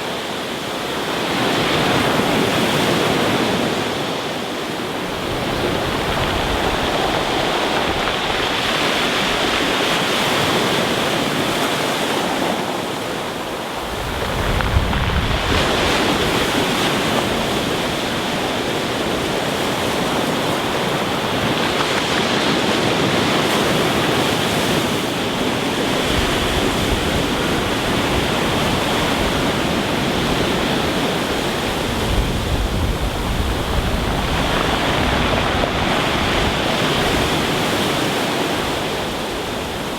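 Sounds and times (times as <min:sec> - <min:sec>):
waves breaking on stony beach: 0:00.0 - 0:39.9.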